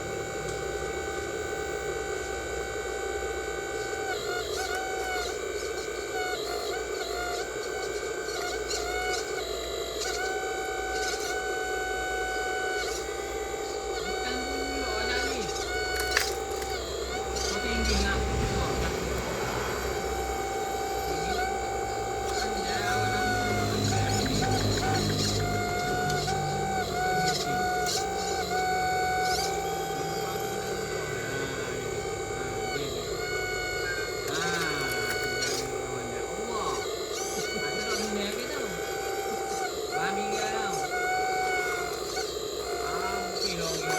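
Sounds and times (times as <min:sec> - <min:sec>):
electric motor whine: 0:00.0 - 0:43.9.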